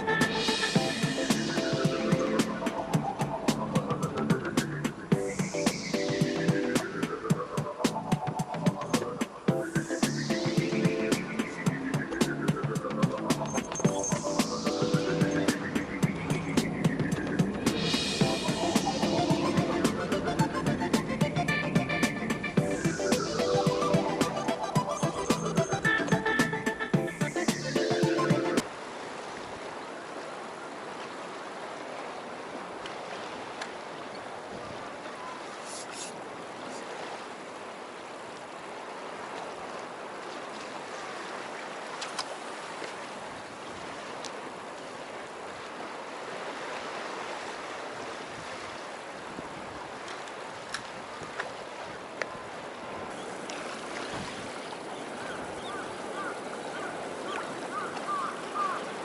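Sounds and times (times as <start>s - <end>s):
sea water washing on shore: 0.0s - 59.0s.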